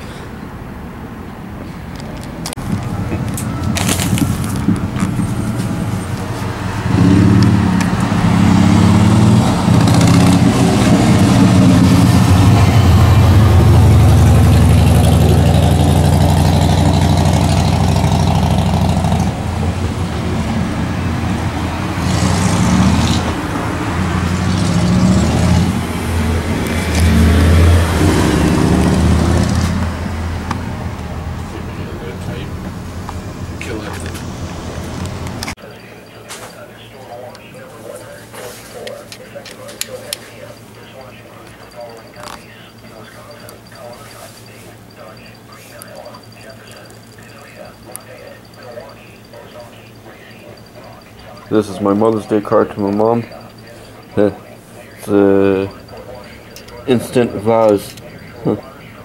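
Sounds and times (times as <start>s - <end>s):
car engine: 0.0s - 59.0s
road noise: 0.0s - 59.0s.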